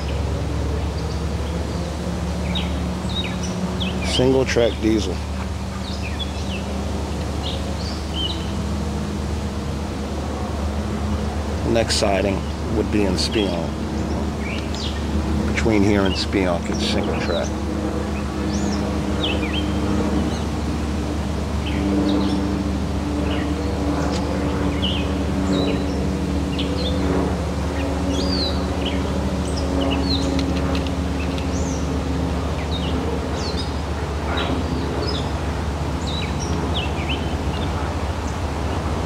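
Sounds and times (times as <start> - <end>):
small songbirds chirping: 0.0 - 10.0, 10.8 - 39.0
low engine drone: 0.0 - 39.0.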